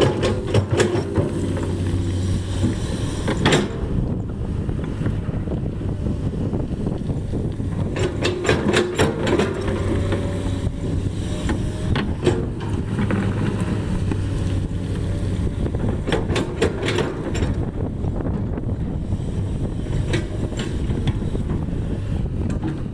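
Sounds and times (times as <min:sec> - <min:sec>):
diesel machinery running: 0:00.0 - 0:22.9
wind buffeting microphone: 0:00.0 - 0:22.9.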